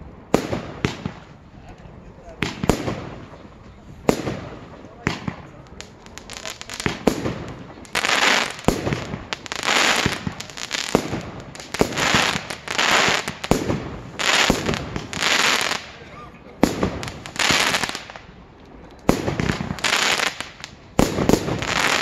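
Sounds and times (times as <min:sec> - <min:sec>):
fireworks bangs: 0:00.0 - 0:18.4, 0:19.0 - 0:22.0
fireworks hissing crackle: 0:02.4 - 0:18.3, 0:19.0 - 0:22.0.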